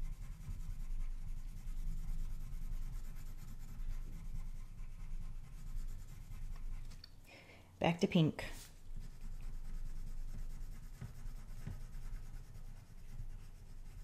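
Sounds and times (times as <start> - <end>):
pencil rubbing on paper: 0.0 - 7.0, 8.5 - 14.0.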